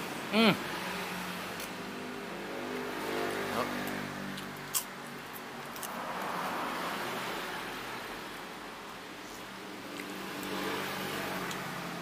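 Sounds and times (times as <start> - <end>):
traffic rushing past: 0.0 - 12.0.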